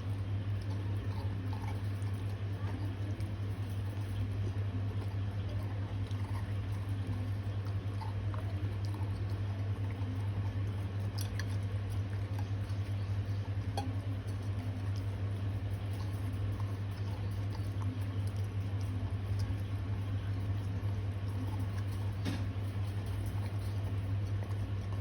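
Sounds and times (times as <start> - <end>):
dog licking and chewing: 0.0 - 25.0
steady low hum: 0.0 - 25.0.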